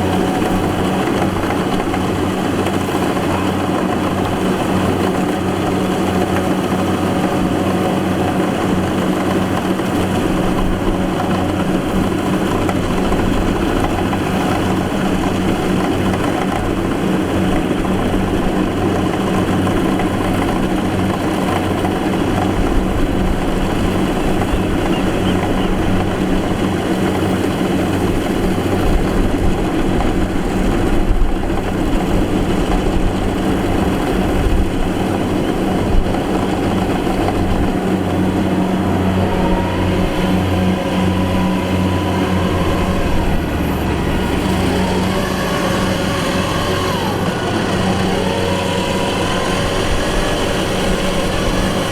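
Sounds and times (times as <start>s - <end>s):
combine harvester engine drone: 0.0s - 51.9s.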